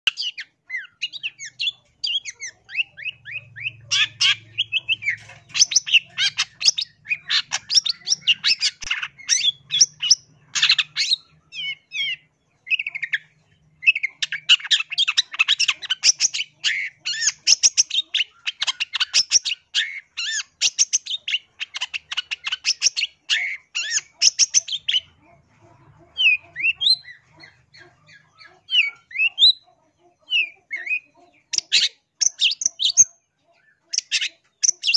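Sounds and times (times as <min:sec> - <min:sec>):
bird chattering song: 0:00.0 - 0:34.9.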